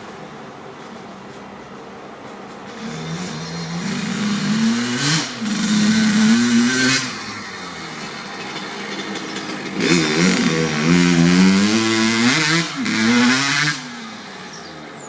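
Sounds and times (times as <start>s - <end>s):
two-stroke motorcycle engine revving: 2.7s - 15.0s.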